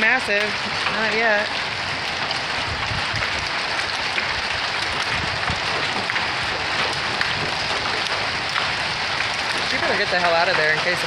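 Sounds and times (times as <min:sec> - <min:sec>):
small hail pattering: 0:00.0 - 0:11.0.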